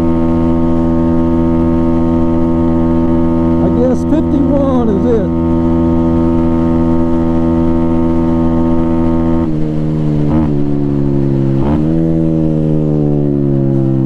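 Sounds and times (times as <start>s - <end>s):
dirt bike engine at high revs: 0.0s - 14.0s.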